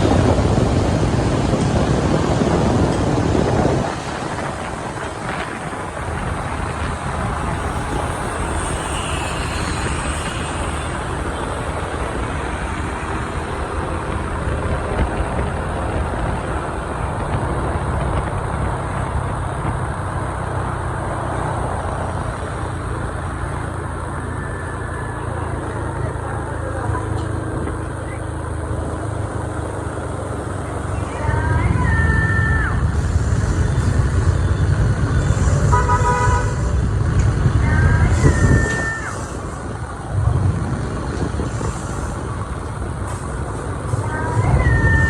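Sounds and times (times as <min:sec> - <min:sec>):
road and traffic noise: 0:00.0 - 0:45.0.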